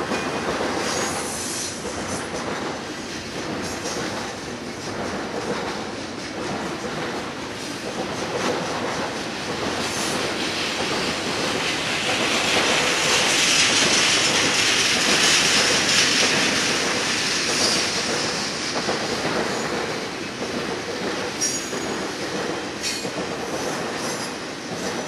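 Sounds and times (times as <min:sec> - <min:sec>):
train wheels rolling on rails: 0:00.0 - 0:25.0
hiss: 0:00.6 - 0:25.0.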